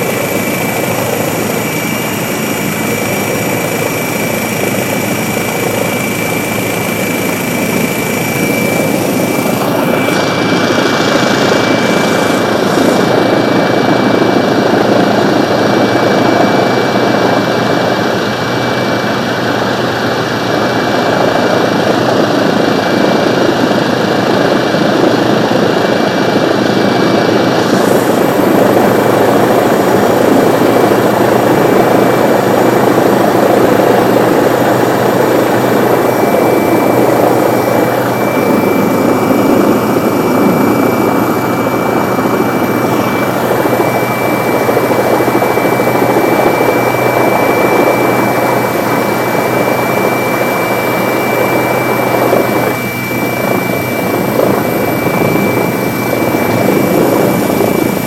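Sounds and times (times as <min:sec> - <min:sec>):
constant high whine: 0:00.0 - 0:58.0
helicopter cabin rotor din: 0:00.0 - 0:58.0.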